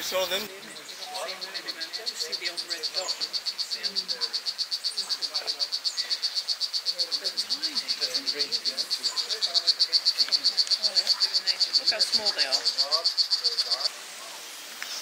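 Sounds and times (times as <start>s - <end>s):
frog trilling: 0.8s - 14.1s.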